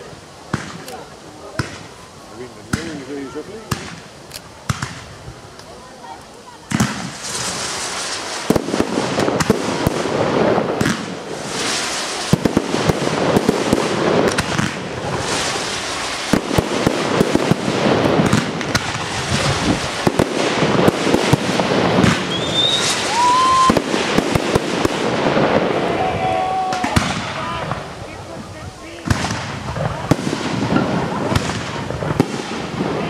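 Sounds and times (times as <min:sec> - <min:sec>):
fireworks bangs: 0:00.0 - 0:33.0
fireworks crackling: 0:00.0 - 0:33.0.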